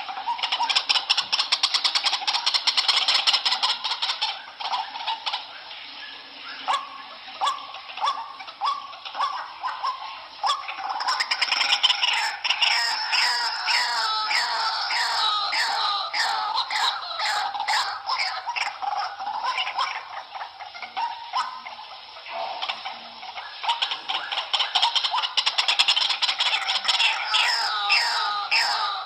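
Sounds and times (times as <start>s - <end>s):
waterhen calling harshly: 0.0s - 29.0s.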